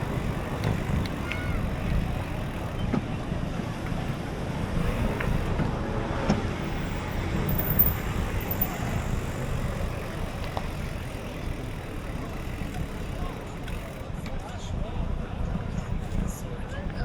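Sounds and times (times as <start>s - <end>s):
passing traffic: 0.0s - 17.0s
road noise: 0.0s - 17.0s.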